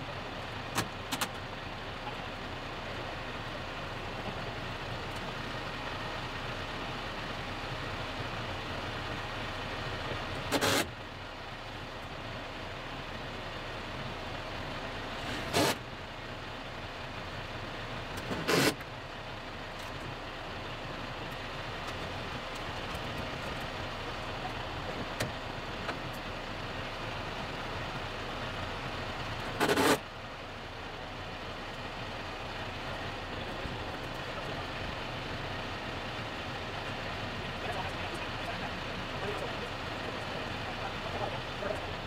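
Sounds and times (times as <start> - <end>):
diesel tractor engine idling: 0.0 - 42.0.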